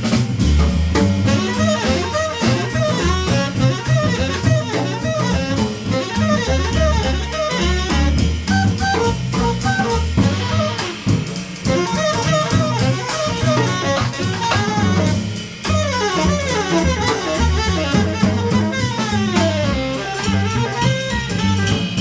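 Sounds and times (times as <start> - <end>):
drum kit with rimshots: 0.0 - 22.0
upright bass: 0.0 - 22.0
tenor saxophone soloing: 1.2 - 22.0.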